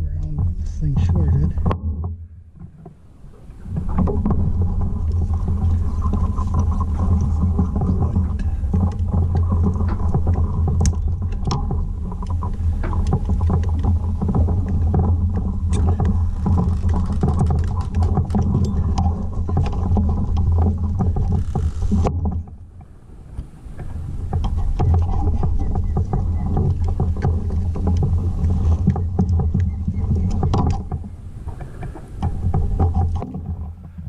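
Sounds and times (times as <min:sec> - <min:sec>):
steady low rumble: 0:00.0 - 0:34.0
small clicks and ticks: 0:02.6 - 0:34.0.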